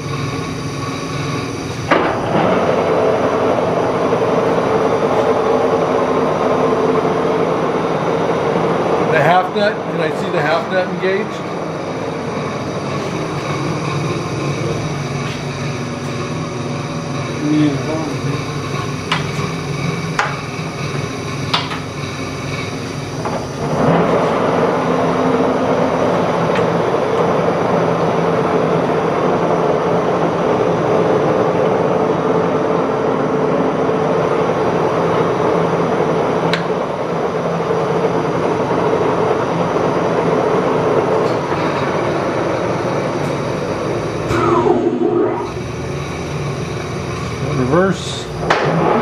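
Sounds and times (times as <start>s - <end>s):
lathe running with gear tone: 0.0s - 49.0s.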